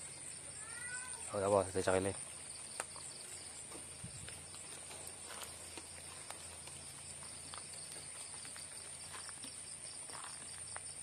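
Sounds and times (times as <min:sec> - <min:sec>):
insect chorus buzzing: 0:00.0 - 0:11.0
pulsing insect chirp: 0:00.0 - 0:11.0
footsteps on wet ground: 0:01.8 - 0:11.0.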